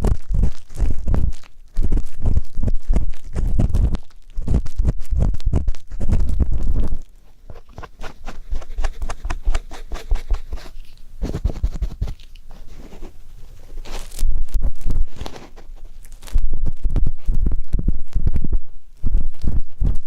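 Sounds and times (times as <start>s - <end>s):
ear pick scraping: 0.0s - 20.0s.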